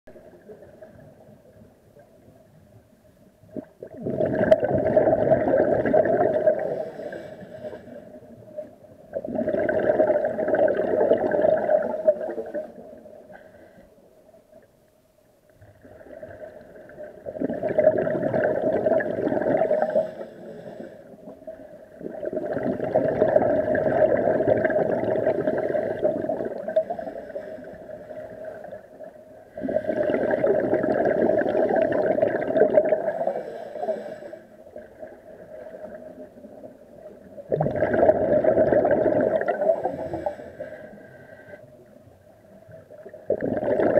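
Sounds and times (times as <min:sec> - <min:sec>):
exhaled bubbles gurgling underwater: 0:00.1 - 0:14.7, 0:15.5 - 0:43.9
faint steady hum: 0:00.1 - 0:43.9.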